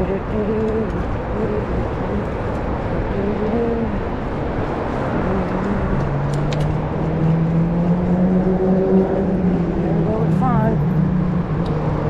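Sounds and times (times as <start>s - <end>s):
deeper engine tone: 0.0s - 12.0s
traffic rushing: 0.0s - 12.0s
vehicle engine hum: 0.0s - 12.0s.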